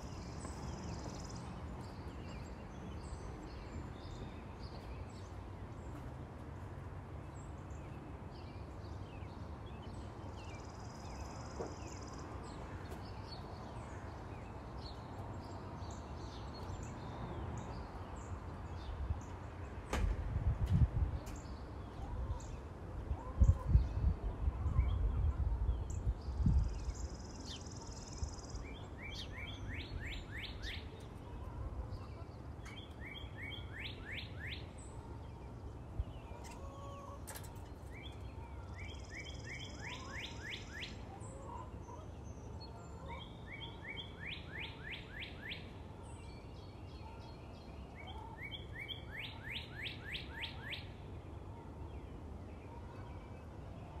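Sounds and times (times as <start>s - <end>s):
bird chirping song: 0.0s - 20.0s, 20.6s - 54.0s.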